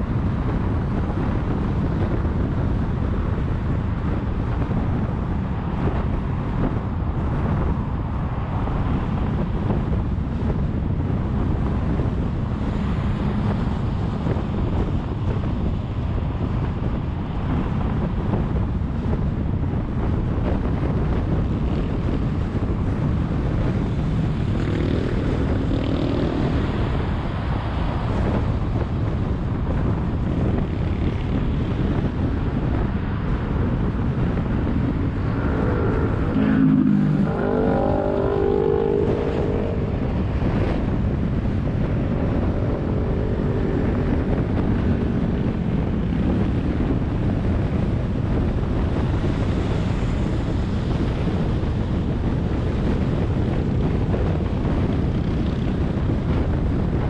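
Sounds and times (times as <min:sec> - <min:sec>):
road traffic noise: 0:00.0 - 0:57.0
wind on microphone: 0:00.0 - 0:57.0.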